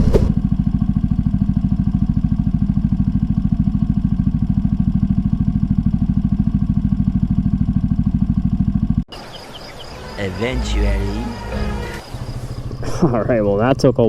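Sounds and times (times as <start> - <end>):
small motorcycle engine puttering: 0.0 - 9.9, 11.9 - 14.0.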